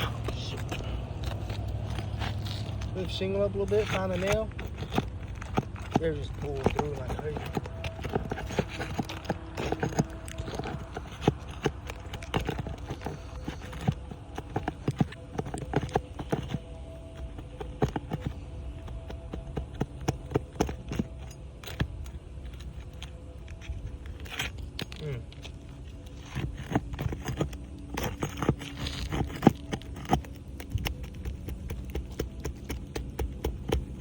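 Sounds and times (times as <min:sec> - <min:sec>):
hand tools tapping on shingles: 0:00.0 - 0:34.0.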